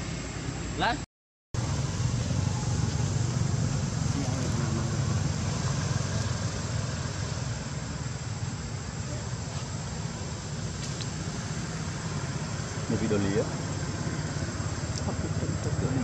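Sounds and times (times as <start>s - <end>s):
outdoor background rumble: 1.6s - 16.0s.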